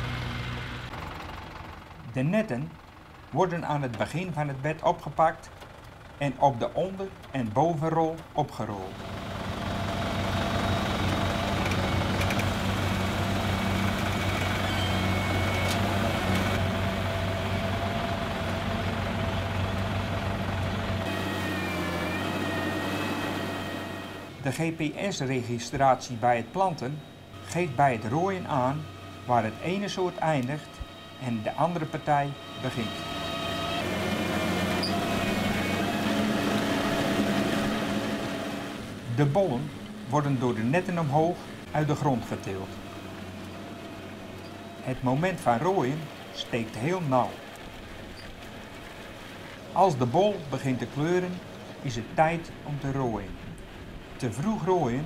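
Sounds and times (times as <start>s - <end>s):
tractor engine running: 0.0s - 55.0s
machine rollers whining: 8.1s - 55.0s.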